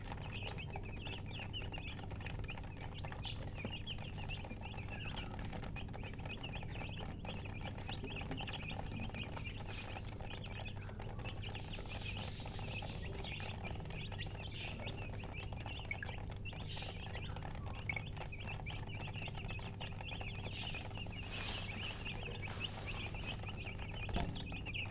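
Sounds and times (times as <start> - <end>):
chicks peeping: 0.0 - 24.9
low steady hum: 0.0 - 24.9.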